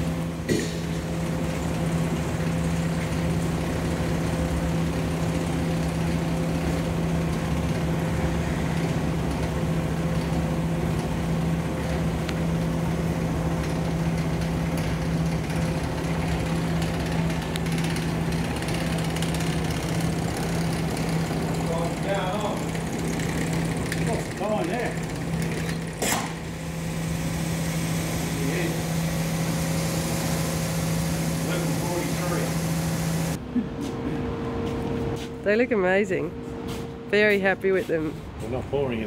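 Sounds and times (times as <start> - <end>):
machine motor hum and rumble: 0.0 - 39.0.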